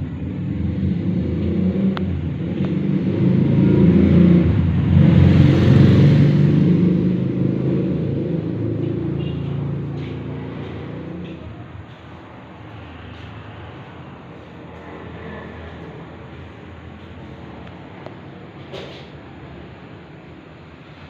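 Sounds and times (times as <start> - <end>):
vehicle engine passing: 0.0 - 21.0.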